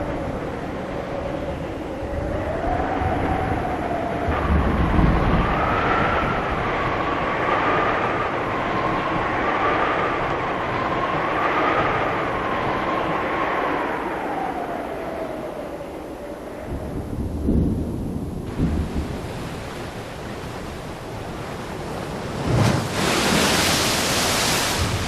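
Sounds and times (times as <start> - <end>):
howling whistle of wind: 0.0 - 25.0.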